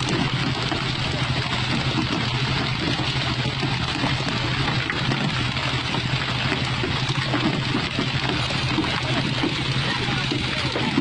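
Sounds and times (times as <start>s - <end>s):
boat engine humming: 0.0s - 11.0s
water rushing along hull: 0.0s - 11.0s.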